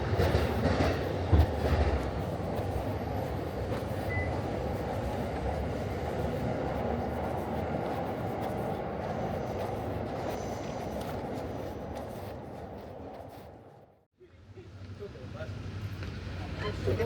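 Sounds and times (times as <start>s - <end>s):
passing train rumble: 0.0s - 17.0s.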